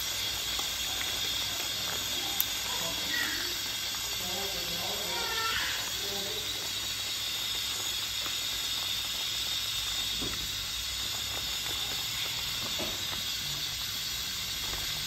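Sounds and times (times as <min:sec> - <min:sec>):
pot simmering: 0:00.0 - 0:15.0
stove hissing: 0:00.0 - 0:15.0.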